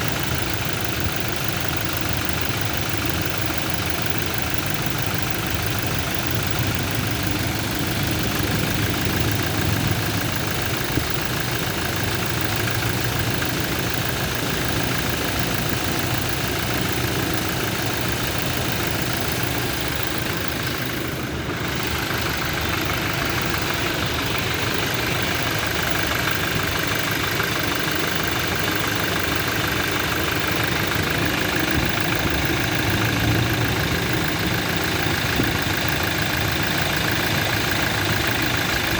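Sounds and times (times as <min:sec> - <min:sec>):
diesel engine idling with knocking: 0:00.0 - 0:38.9.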